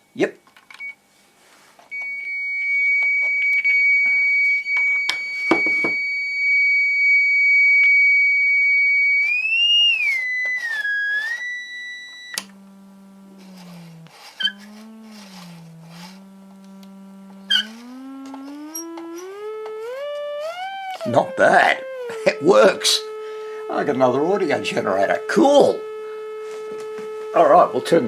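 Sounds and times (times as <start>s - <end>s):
high-pitched electronic tone: 2.0s - 28.0s.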